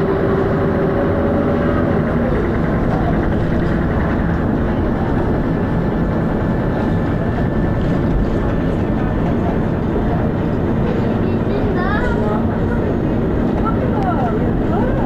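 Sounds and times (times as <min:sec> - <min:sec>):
bus engine running: 0:00.0 - 0:15.0
road noise: 0:00.0 - 0:15.0.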